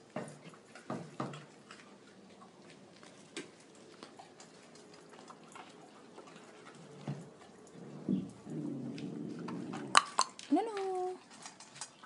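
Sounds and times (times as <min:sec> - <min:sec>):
dogs crunching kibble: 0:00.0 - 0:12.0.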